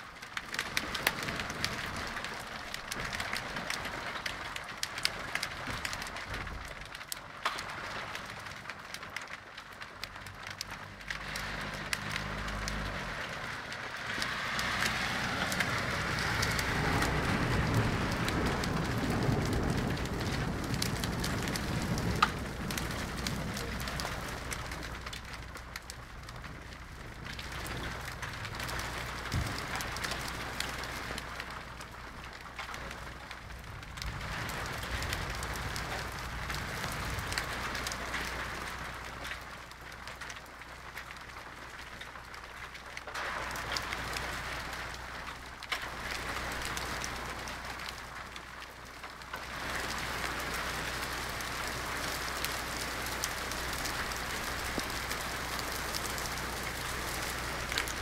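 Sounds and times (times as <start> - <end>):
hail pelting stone and plants: 0.0 - 58.0.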